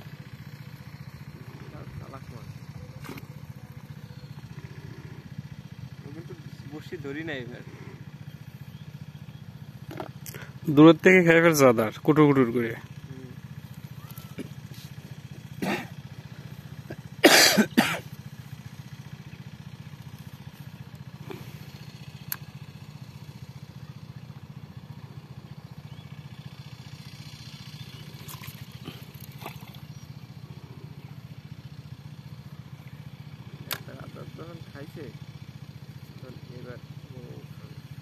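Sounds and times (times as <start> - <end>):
low engine hum: 0.0 - 38.0.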